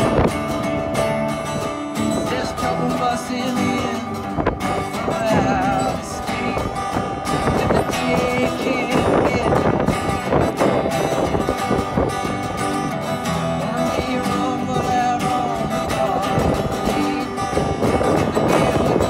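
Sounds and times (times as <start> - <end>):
acoustic guitars and mandolin strumming: 0.0 - 19.0.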